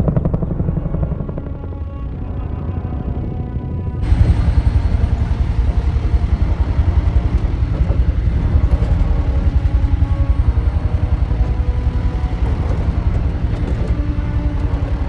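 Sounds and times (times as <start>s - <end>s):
helicopter rotor and engine noise: 0.0s - 15.0s.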